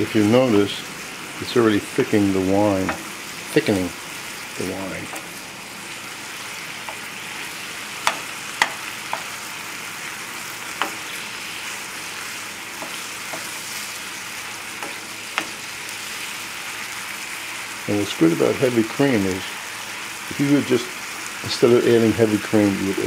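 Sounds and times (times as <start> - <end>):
food sizzling in a skillet: 0.0 - 23.0.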